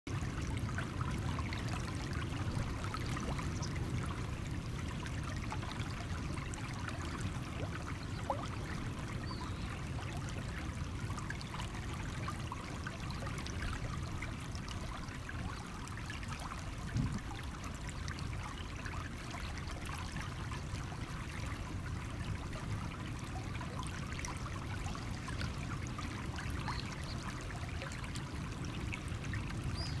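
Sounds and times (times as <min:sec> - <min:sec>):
stream trickling over stones: 0:00.1 - 0:30.0.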